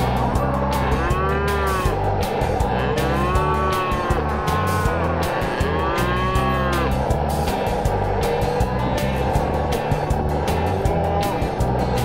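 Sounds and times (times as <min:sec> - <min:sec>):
background music with steady beat: 0:00.0 - 0:12.0
calf bawling: 0:00.0 - 0:12.0.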